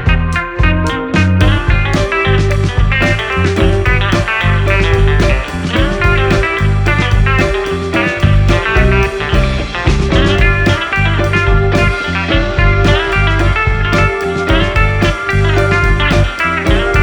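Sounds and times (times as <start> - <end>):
upbeat guitar music: 0.0 - 17.0.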